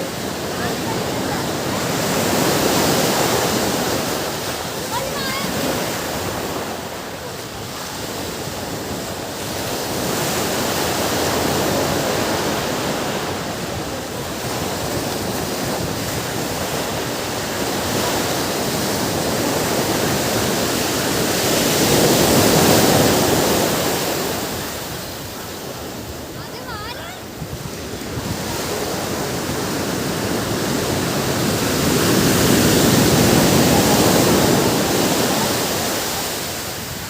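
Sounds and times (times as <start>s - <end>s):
ocean surf washing on beach: 0.0s - 37.0s.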